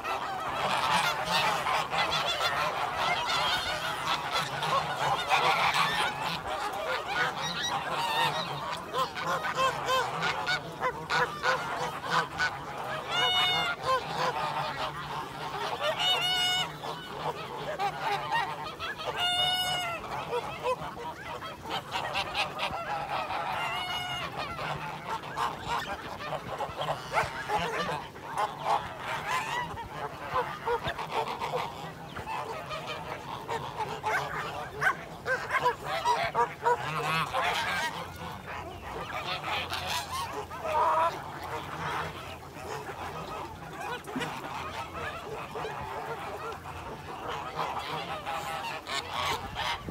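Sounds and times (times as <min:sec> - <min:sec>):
flock of birds calling: 0:00.0 - 0:49.9.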